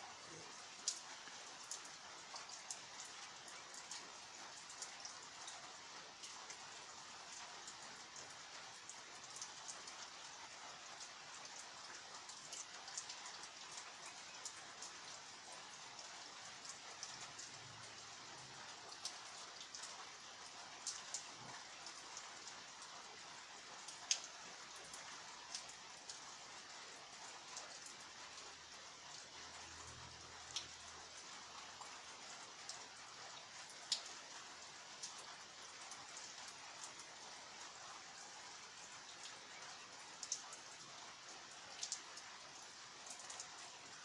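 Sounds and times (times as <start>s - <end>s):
steady rain hiss: 0.0s - 44.0s.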